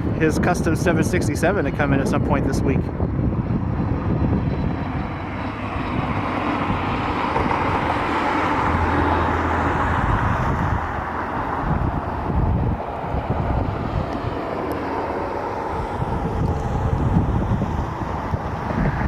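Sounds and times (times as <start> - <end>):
jet aircraft passing: 0.0 - 19.0.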